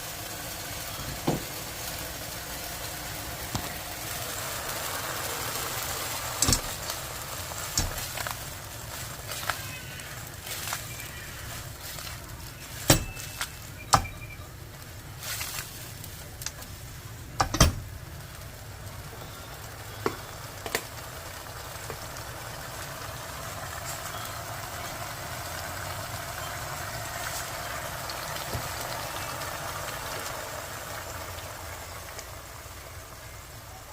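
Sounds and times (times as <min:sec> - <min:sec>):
zucchini sizzling in a pan: 0:00.0 - 0:33.9.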